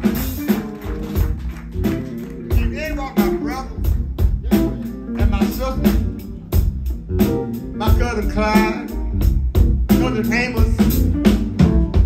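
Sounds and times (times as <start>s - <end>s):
bass guitar: 0.0s - 12.0s
drum kit beat: 0.0s - 12.0s
sliding melodic phrases: 0.0s - 12.0s.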